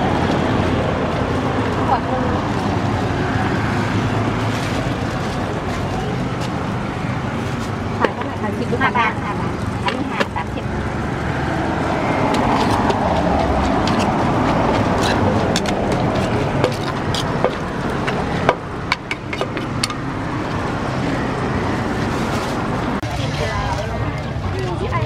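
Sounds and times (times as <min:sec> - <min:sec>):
traffic and street noise: 0:00.0 - 0:25.0.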